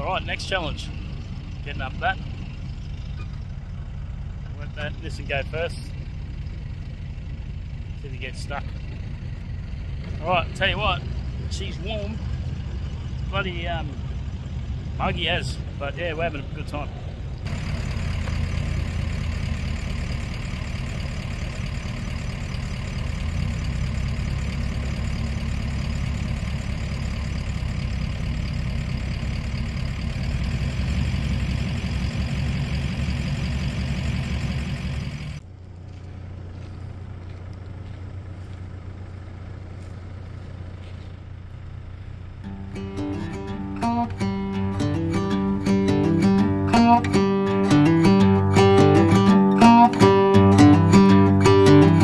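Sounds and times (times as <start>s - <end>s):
vehicle engines running: 0.0s - 52.0s.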